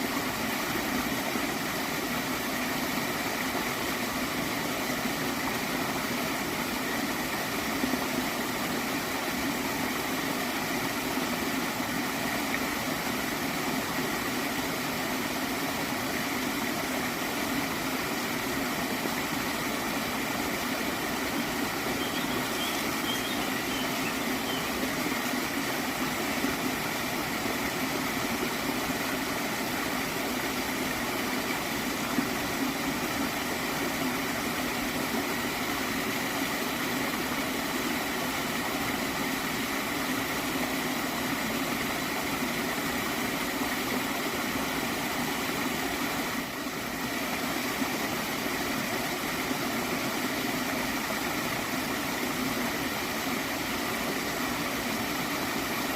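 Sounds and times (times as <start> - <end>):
water stream gurgling: 0.0 - 55.9.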